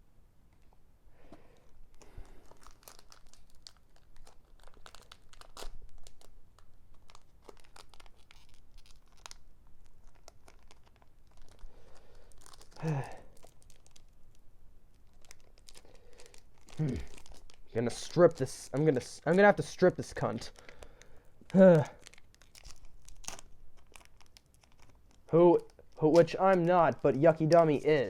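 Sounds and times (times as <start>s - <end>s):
foil wrapper tearing and crinkling: 1.9s - 27.8s.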